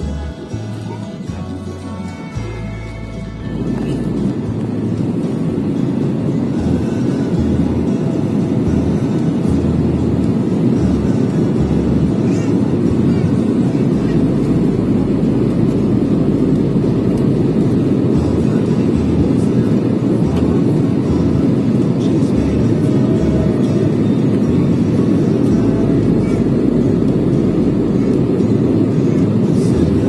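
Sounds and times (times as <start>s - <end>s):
jet engines droning: 0.0s - 30.0s
rushing air: 0.0s - 30.0s.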